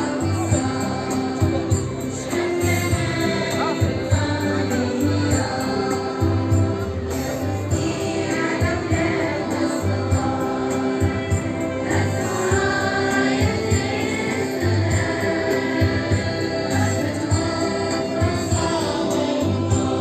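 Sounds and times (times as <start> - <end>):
choir singing over a beat: 0.0 - 20.0.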